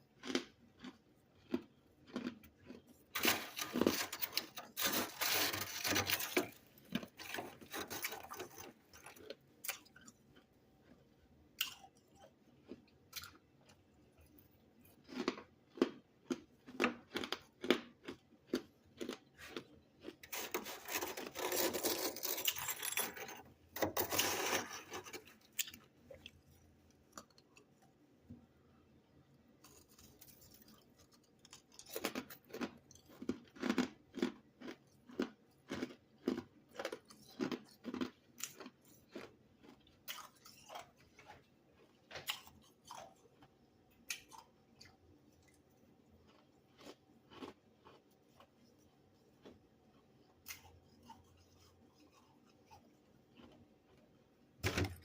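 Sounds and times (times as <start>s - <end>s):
chewing ice crunching: 0.0s - 28.0s, 29.6s - 55.0s.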